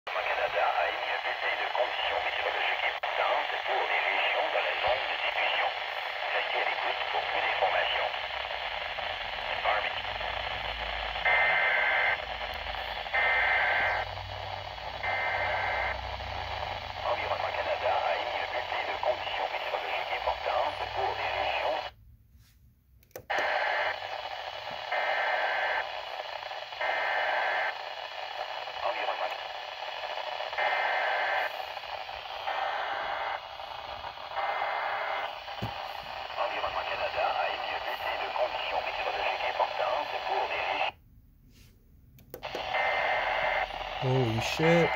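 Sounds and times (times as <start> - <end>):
broadcast static hiss: 0.1 - 22.0, 23.2 - 44.9.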